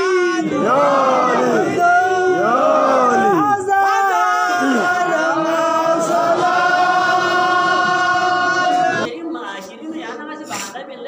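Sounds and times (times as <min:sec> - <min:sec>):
man chanting melodically: 0:00.0 - 0:09.1.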